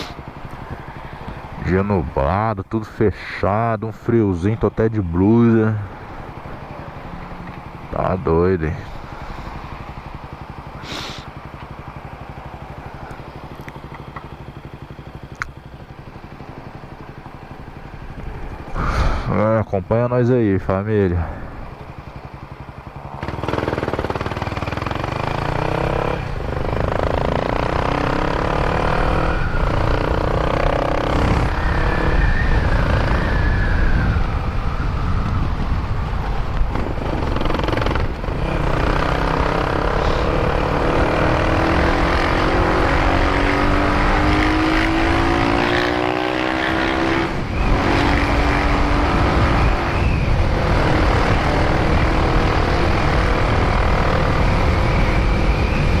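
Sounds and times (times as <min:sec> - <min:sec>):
motorcycle engine revving through gears: 0:05.2 - 0:19.3, 0:21.3 - 0:35.3, 0:36.2 - 0:56.0.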